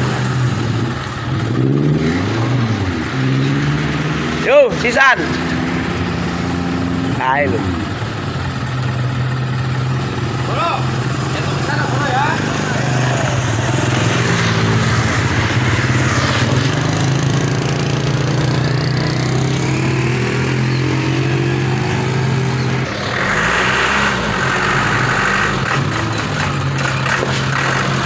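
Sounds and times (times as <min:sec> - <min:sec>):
vehicle engines running: 0:00.0 - 0:28.0.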